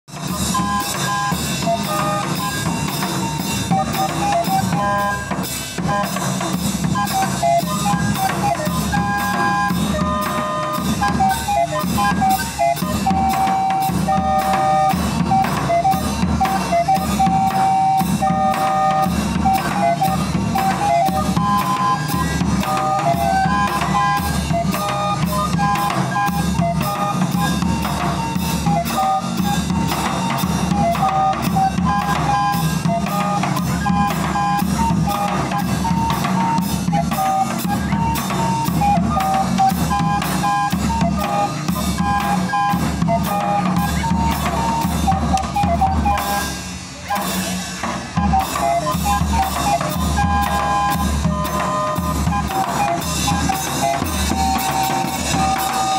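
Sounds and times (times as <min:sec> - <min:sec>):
bass drum and cymbals beat: 0:00.1 - 0:55.9.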